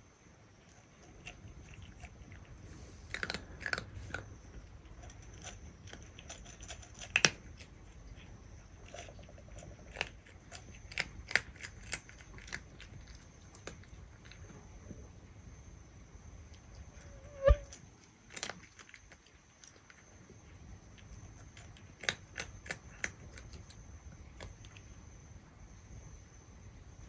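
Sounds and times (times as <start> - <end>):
cat crunching dry kibble: 0.4 - 15.1, 17.8 - 25.0.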